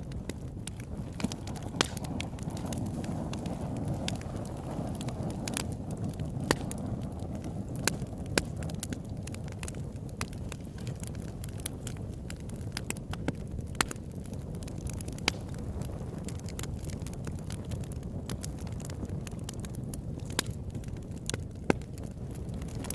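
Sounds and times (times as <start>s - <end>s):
campfire crackling and popping: 0.0s - 22.9s
low rush of flame: 0.0s - 22.9s.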